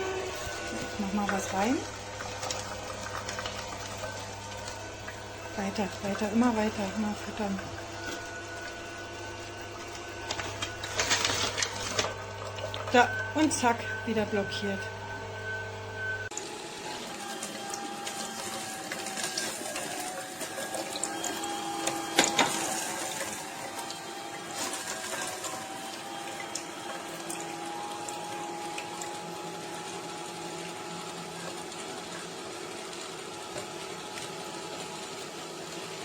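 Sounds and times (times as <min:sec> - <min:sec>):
juicer motor whine: 0:00.0 - 0:36.0.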